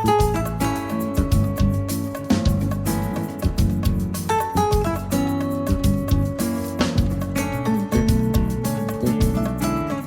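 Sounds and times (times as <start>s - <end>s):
plucked guitar over a beat: 0.0s - 10.0s.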